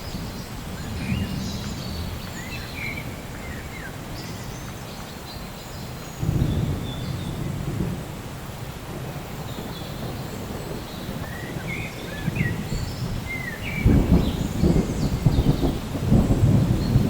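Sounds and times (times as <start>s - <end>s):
low rumble of thunder: 0.0s - 5.0s, 5.8s - 17.0s
birds chirping: 0.0s - 7.5s, 9.4s - 17.0s
rain: 0.0s - 17.0s.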